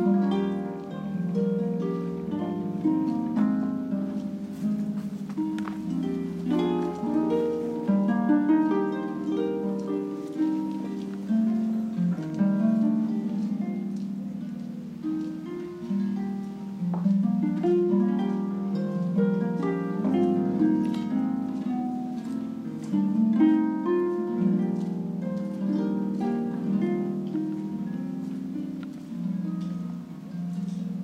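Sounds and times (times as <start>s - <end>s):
harp plucked notes: 0.0s - 31.0s.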